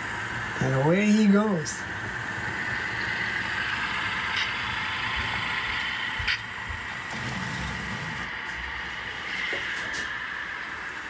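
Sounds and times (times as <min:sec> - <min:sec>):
model locomotive humming: 0:00.0 - 0:11.0.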